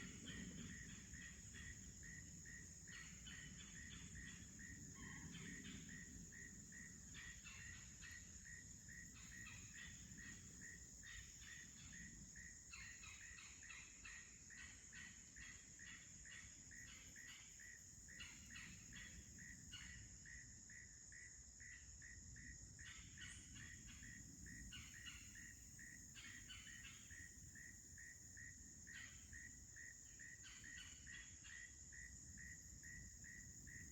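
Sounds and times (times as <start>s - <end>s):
high-pitched insect trill: 0.0s - 33.9s
pulsing insect chirp: 0.0s - 33.9s.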